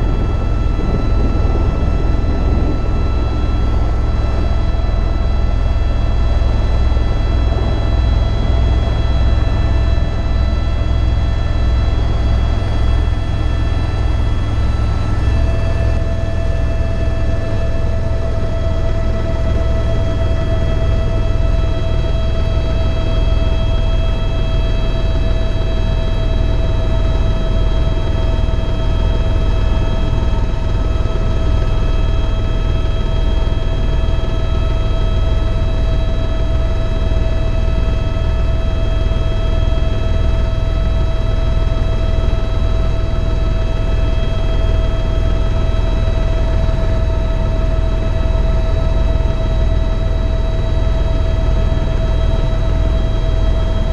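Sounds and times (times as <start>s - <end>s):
helicopter rotor thrum: 0.0s - 53.9s
turbine whine: 0.0s - 53.9s.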